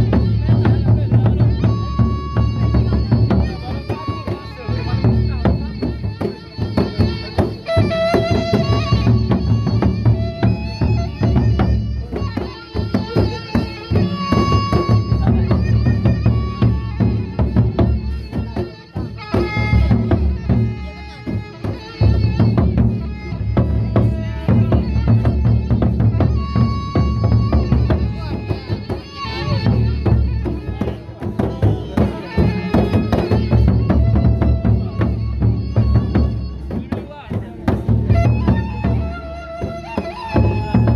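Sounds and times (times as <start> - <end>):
barrel drums beating: 0.0 - 40.9.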